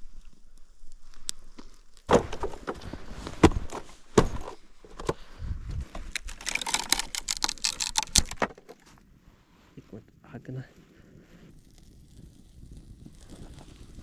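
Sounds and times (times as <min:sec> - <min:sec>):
rustling and crackling: 0:00.0 - 0:14.0.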